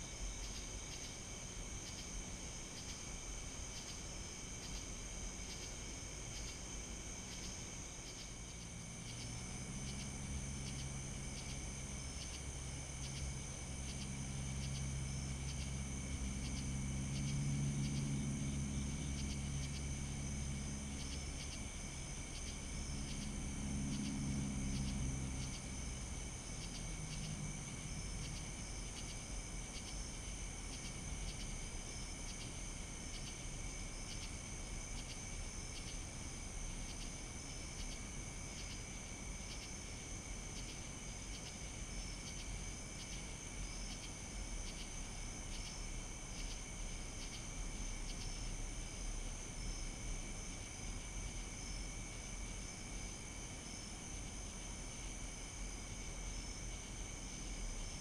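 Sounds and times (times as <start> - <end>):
distant droning hum: 0.0 - 58.0
night insects chirping: 0.0 - 58.0.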